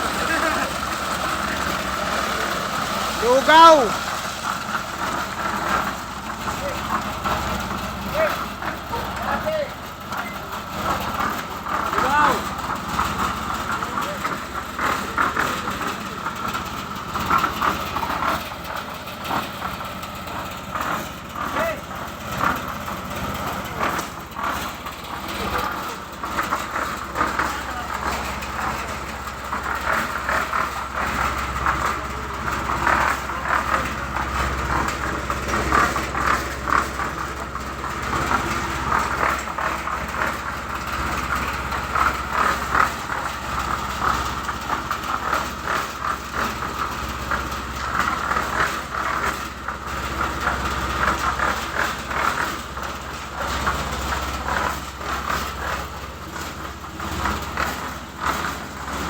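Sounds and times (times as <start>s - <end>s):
engine running steadily: 0.0s - 59.0s
rattling clatter: 0.0s - 59.0s.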